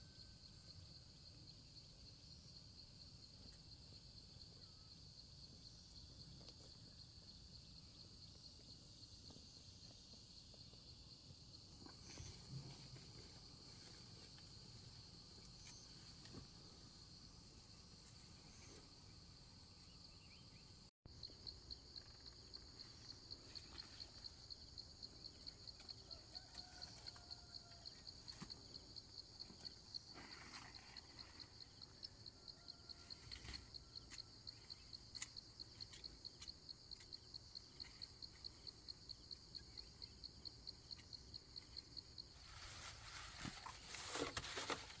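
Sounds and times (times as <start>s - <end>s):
high-pitched insect chorus: 0.0s - 45.0s.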